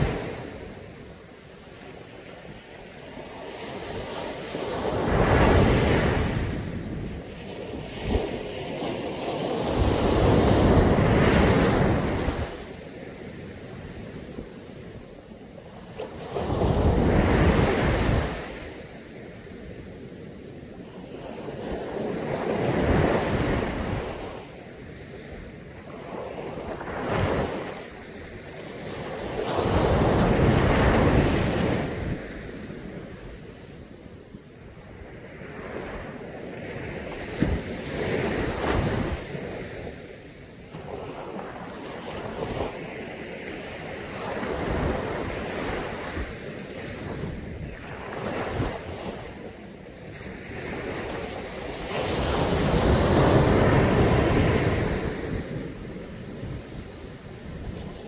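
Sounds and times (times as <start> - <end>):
waves breaking on a beach: 0.0 - 58.0
wind on microphone: 0.0 - 58.0.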